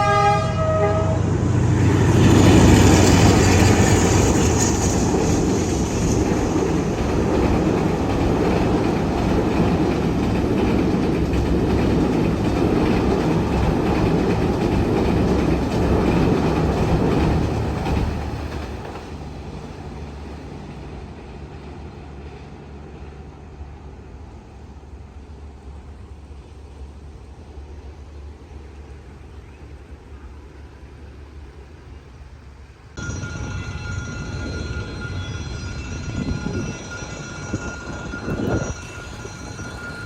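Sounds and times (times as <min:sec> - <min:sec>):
train carriages on rails: 0:00.0 - 0:40.0.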